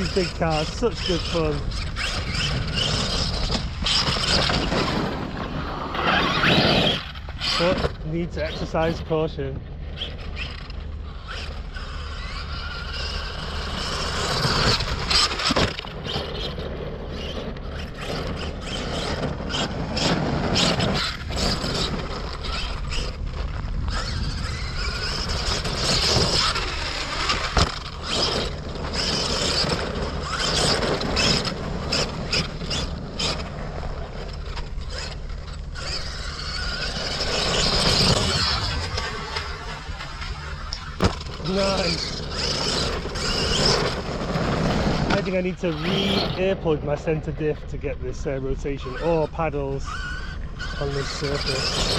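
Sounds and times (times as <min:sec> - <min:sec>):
rc car motor running: 0:00.0 - 0:51.9.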